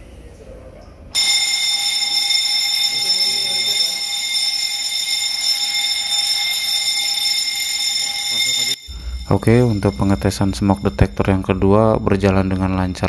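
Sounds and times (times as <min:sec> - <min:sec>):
fire alarm ringing: 0:01.1 - 0:13.0.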